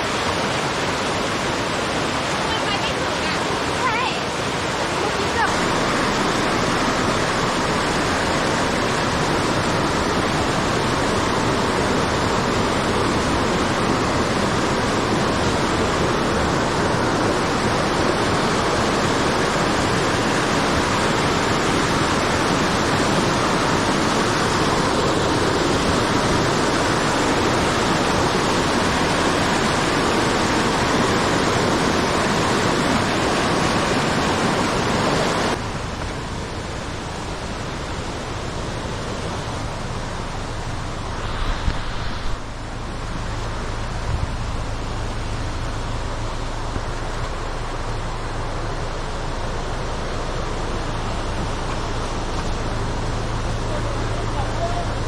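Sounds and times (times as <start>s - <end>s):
fast-flowing water roar: 0.0s - 55.0s.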